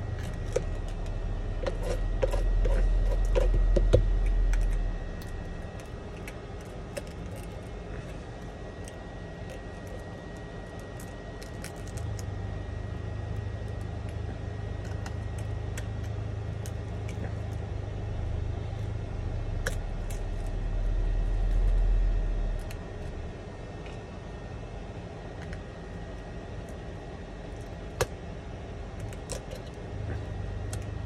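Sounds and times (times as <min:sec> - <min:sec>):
low hum and rumble: 0:00.0 - 0:31.0.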